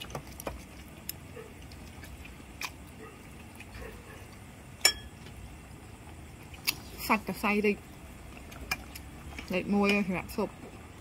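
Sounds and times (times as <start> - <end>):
faint eating sounds: 0.0 - 11.0.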